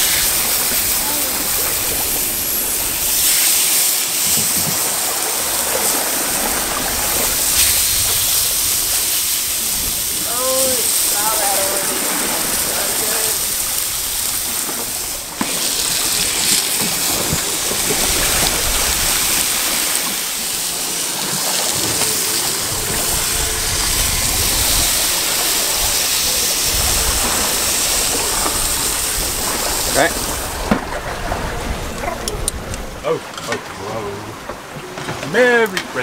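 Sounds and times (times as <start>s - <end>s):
steaks sizzling on a barbecue: 0.0s - 30.7s
sea rushing: 0.0s - 36.0s
wind: 0.0s - 36.0s.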